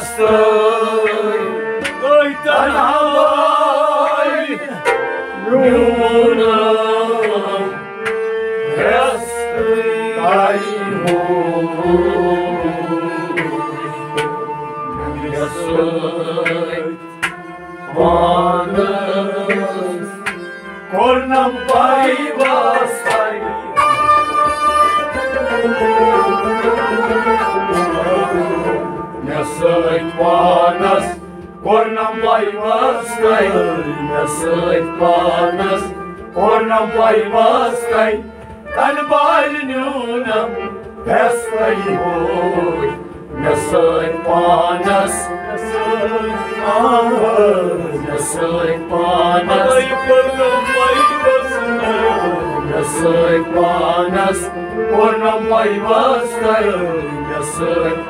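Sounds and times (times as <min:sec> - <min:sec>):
man singing: 0:00.0 - 0:07.9, 0:08.6 - 0:14.2, 0:14.8 - 0:17.1, 0:17.9 - 0:58.0
bowed sarangi: 0:00.0 - 0:58.0.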